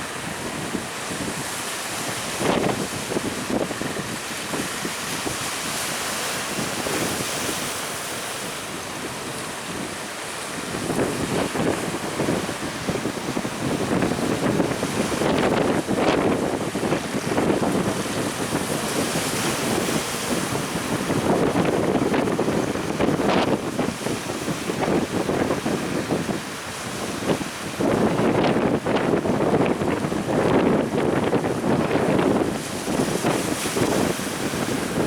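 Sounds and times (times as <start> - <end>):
sea waves breaking: 0.0 - 35.0
wind buffeting microphone: 0.0 - 35.0.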